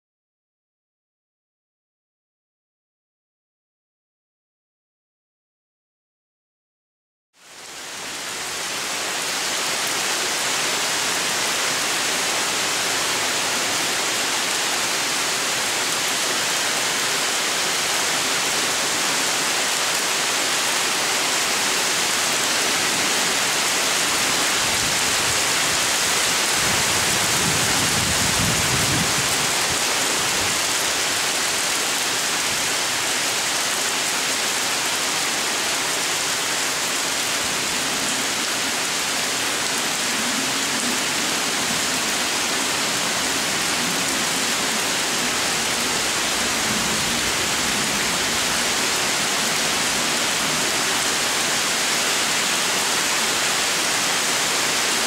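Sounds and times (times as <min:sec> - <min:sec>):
heavy rain pouring: 0:07.4 - 0:55.0.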